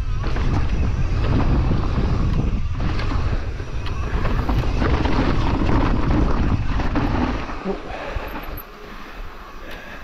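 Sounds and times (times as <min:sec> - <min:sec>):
wind buffeting microphone: 0:00.0 - 0:08.5
tyre rumble over dirt: 0:00.0 - 0:08.6
bike clicks and rattles: 0:00.0 - 0:10.0.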